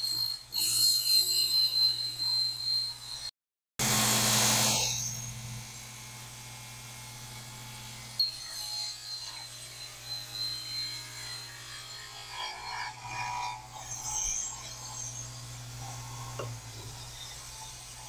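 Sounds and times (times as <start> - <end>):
table saw running: 0.0 - 18.0.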